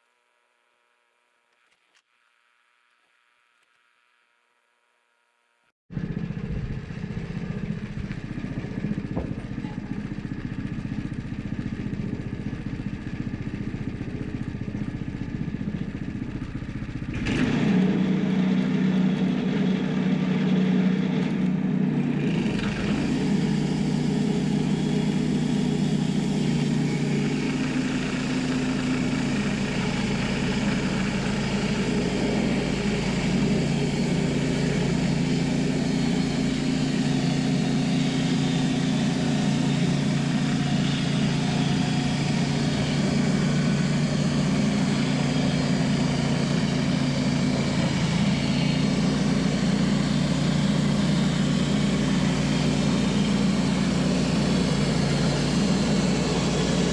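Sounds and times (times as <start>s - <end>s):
engine running and revving: 5.9s - 56.9s.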